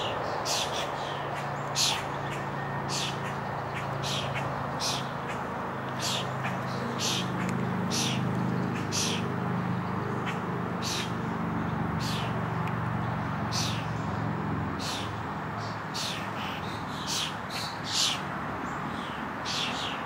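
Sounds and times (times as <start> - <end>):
motor traffic hum: 0.0 - 20.0.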